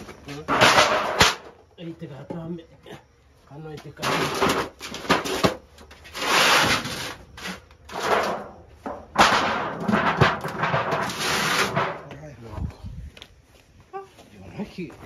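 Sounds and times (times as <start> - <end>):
wooden boxes knocking and scraping: 0.0 - 12.6.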